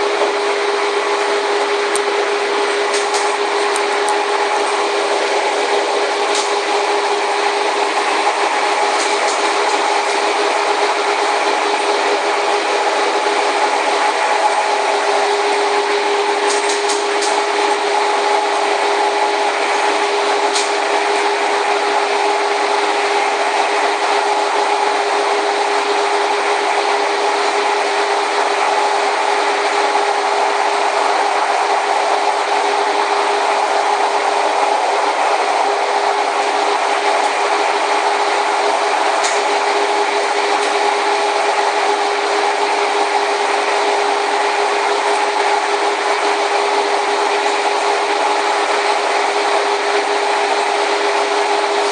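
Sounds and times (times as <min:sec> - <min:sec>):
steady hum: 0:00.0 - 0:51.9
train running on guideway: 0:00.0 - 0:51.9.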